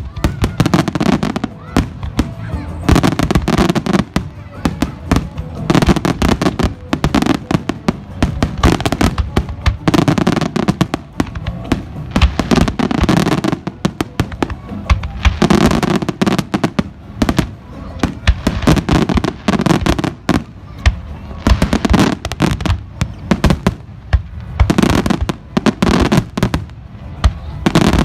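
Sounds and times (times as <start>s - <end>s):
fireworks bangs and crackles: 0.0s - 28.0s
music: 0.0s - 28.0s
voices: 0.0s - 28.0s.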